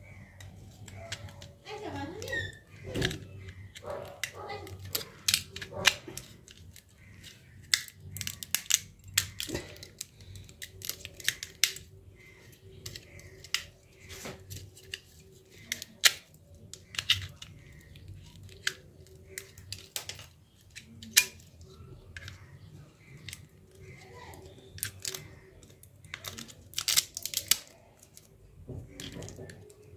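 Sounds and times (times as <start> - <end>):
plastic clicks and snaps: 0.1 - 1.6, 2.2 - 29.9.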